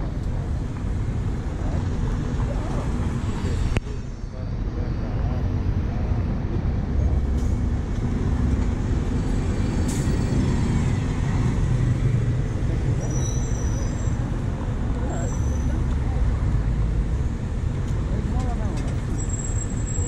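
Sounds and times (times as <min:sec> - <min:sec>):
bus engine driving past: 0:00.0 - 0:20.0
rumble of traffic: 0:00.0 - 0:20.0.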